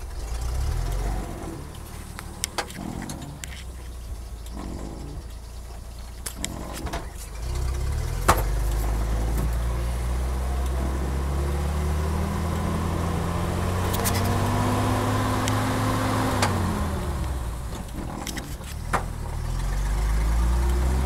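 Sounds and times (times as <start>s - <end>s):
truck engine pulling: 0.0s - 21.0s.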